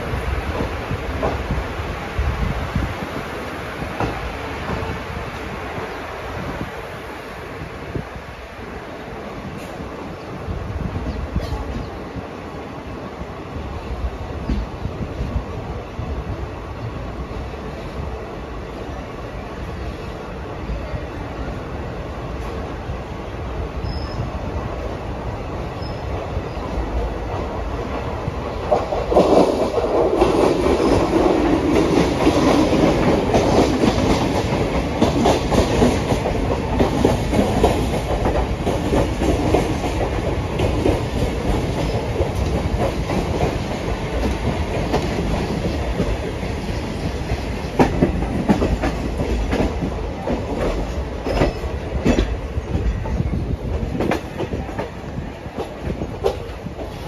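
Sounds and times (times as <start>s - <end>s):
train coaches rumbling: 0.0s - 57.0s.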